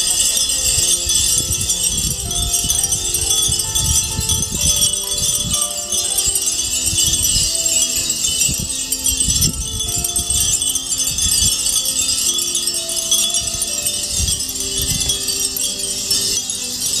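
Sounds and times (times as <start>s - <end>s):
wind chimes tinkling: 0.0s - 17.0s.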